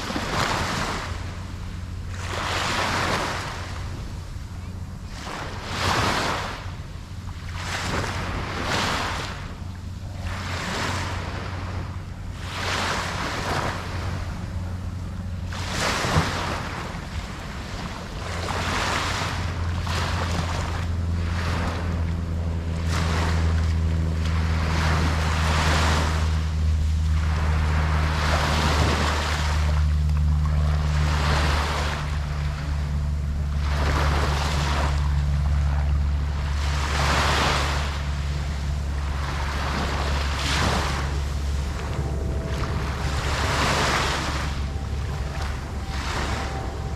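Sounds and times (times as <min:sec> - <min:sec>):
ocean surf washing: 0:00.0 - 0:46.9
steady low hum: 0:00.0 - 0:46.9.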